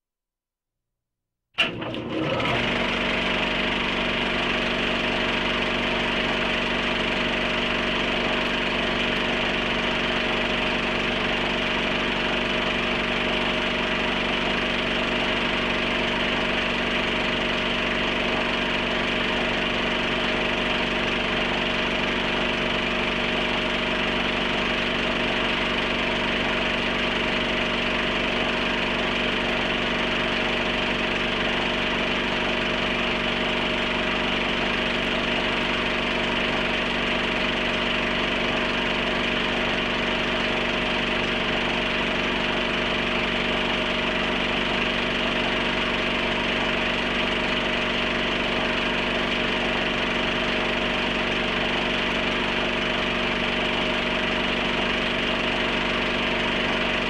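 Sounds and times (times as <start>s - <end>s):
film projector whirring and clattering: 1.6s - 57.0s.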